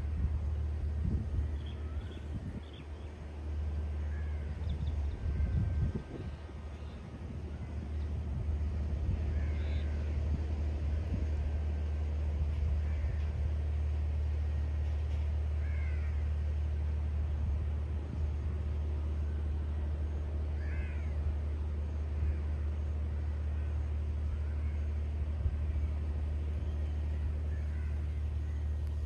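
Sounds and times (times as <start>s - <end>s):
distant propeller plane engines: 0.0s - 29.0s.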